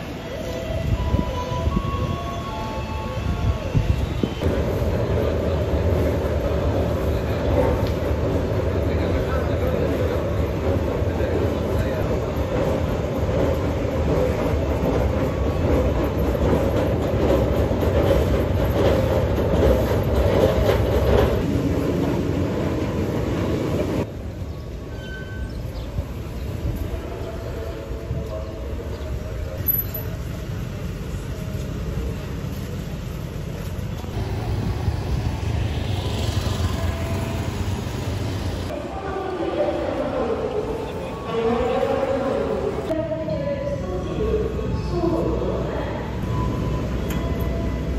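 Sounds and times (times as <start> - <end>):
wheels rumbling on rail: 0.0 - 43.1.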